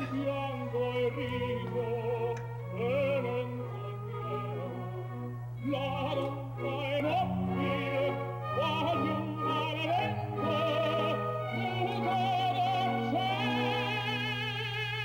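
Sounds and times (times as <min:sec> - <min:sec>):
operatic singing: 0:00.0 - 0:15.0.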